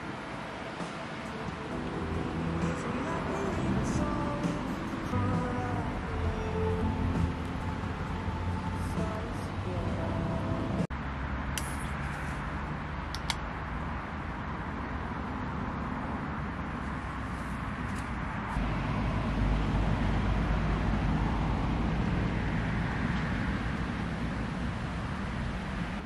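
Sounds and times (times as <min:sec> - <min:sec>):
road traffic noise: 0:00.0 - 0:26.0
vehicle passing close: 0:00.0 - 0:26.0.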